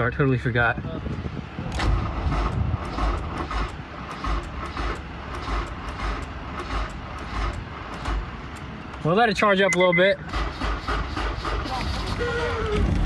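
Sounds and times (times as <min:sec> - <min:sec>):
car engine cranking: 0:01.7 - 0:13.0.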